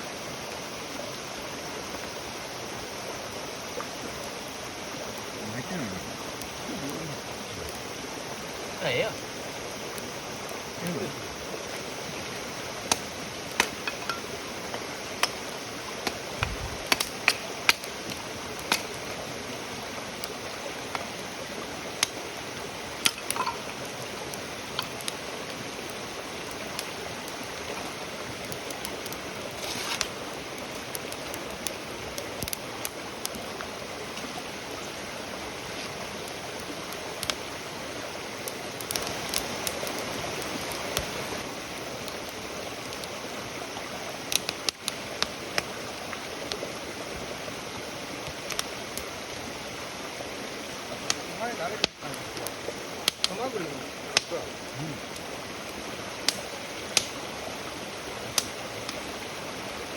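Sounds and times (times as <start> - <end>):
campfire crackling and popping: 0.1 - 59.9.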